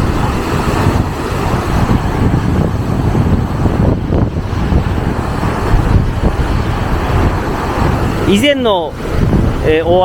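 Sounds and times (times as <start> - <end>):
strong wind gusting on microphone: 0.0 - 10.0.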